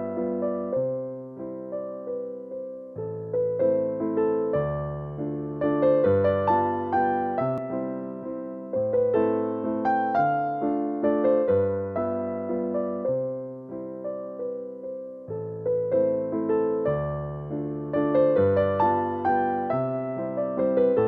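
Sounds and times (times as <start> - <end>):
calm piano melody: 0.0 - 21.0.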